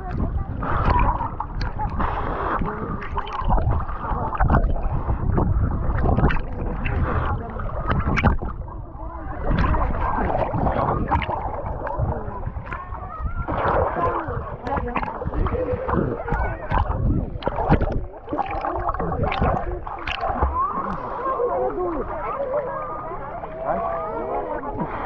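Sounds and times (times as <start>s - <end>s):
wind buffeting on microphone: 0.0s - 21.0s
water sloshing and splashing: 0.0s - 25.0s.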